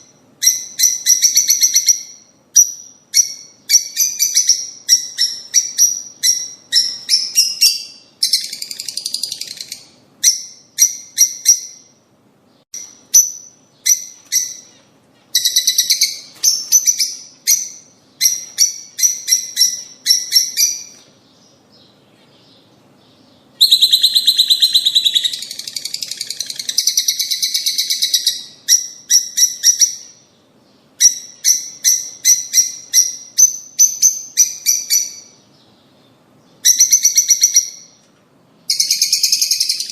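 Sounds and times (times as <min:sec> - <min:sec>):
birds chattering rapidly: 0:00.0 - 0:38.1
lovebirds chirping: 0:00.0 - 0:39.9.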